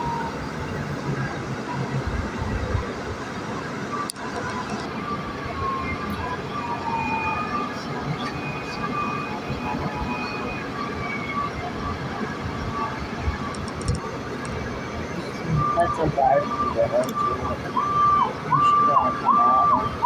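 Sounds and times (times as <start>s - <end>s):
distant siren wailing: 0.0s - 20.0s
road noise: 0.0s - 20.0s.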